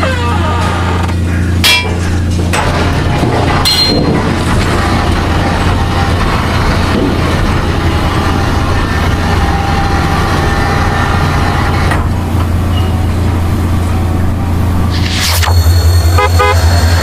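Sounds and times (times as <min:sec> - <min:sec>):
vehicle rumble with low hum: 0:00.0 - 0:17.0.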